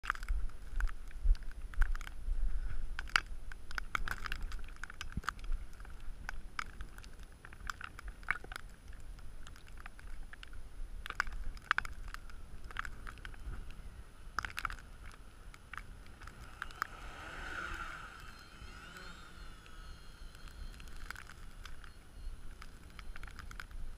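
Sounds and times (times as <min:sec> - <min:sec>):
crackling clicks: 0:00.0 - 0:23.9.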